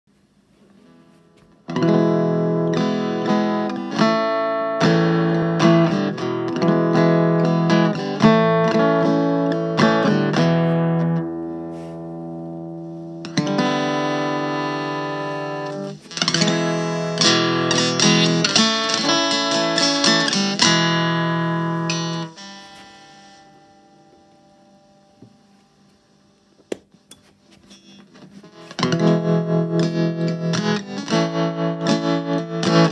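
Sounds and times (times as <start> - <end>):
electric guitar chords and notes: 1.5 - 25.6, 28.5 - 32.9.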